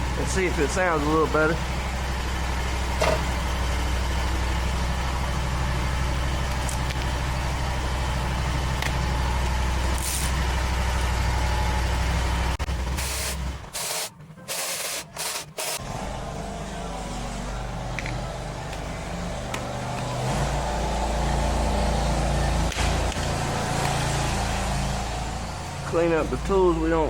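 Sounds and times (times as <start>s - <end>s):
mower engine running: 0.0s - 27.0s.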